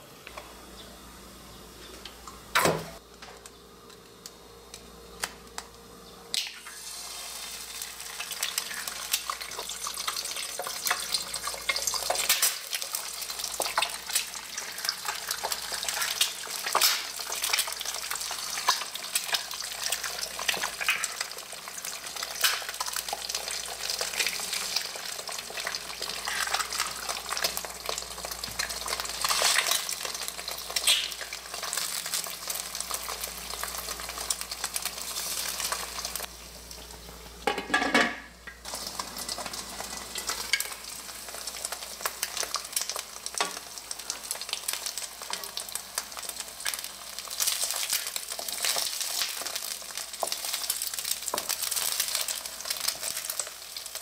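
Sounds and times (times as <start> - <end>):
eggs sizzling in frying pan: 6.4 - 54.0.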